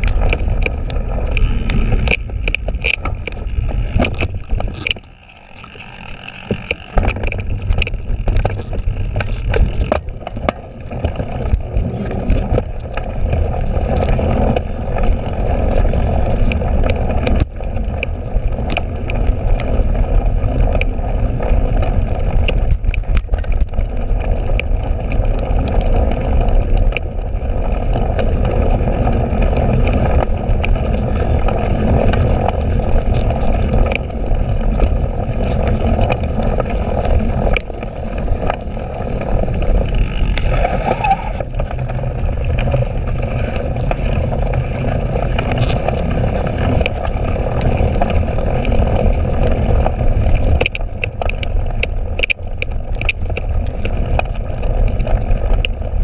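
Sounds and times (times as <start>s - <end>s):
bike clicks and rattles: 0.0s - 56.0s
bike riding rumble: 0.0s - 56.0s.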